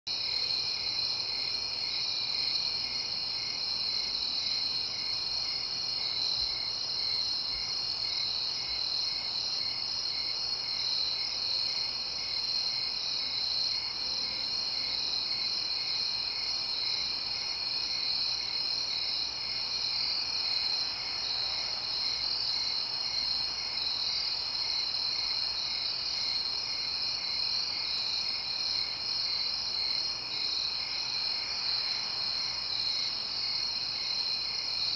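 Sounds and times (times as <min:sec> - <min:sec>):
cricket chirping rhythmically: 0:00.1 - 0:34.9.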